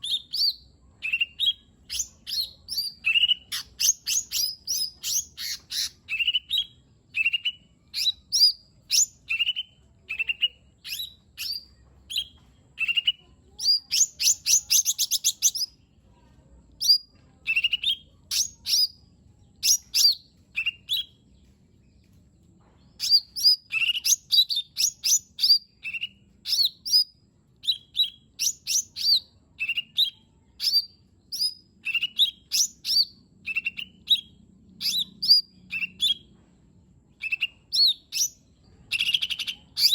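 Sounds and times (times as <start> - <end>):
bird singing whistled notes: 0.0 - 15.8, 16.8 - 21.2, 23.0 - 36.3, 37.2 - 39.9.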